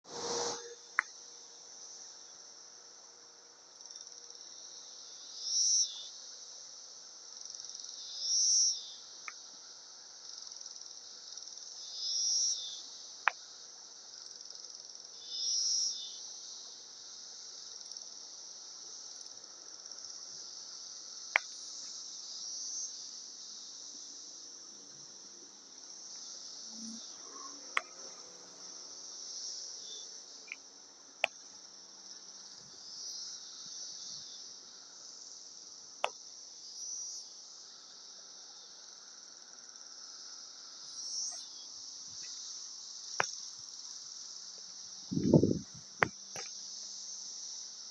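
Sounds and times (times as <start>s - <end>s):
cicadas buzzing: 0.0s - 47.9s.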